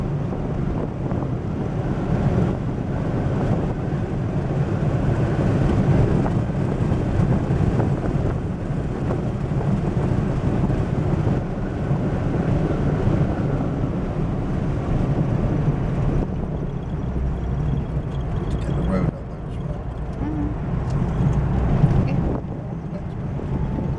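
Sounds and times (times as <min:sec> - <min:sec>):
car driving rumble: 0:00.0 - 0:23.9
wind buffeting microphone: 0:00.0 - 0:23.9.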